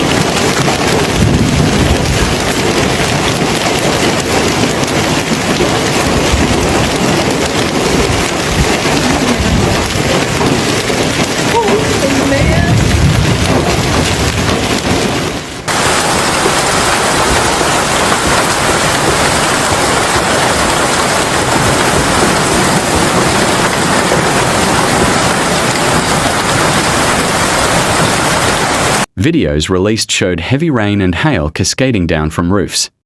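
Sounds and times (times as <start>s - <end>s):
heavy rain pouring: 0.0s - 29.2s.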